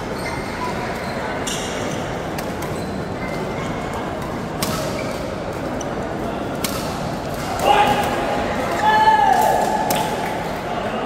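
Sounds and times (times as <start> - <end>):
sports hall chatter: 0.0 - 11.0.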